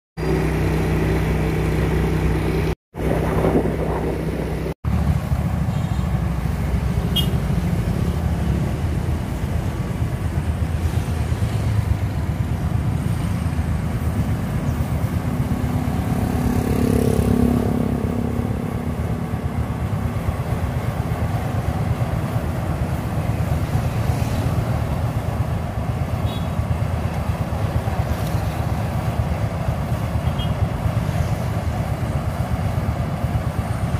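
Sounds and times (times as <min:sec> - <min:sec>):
combine harvester engine rumbling: 0:00.2 - 0:16.6, 0:17.2 - 0:33.9
engine with steady tone: 0:00.2 - 0:33.9.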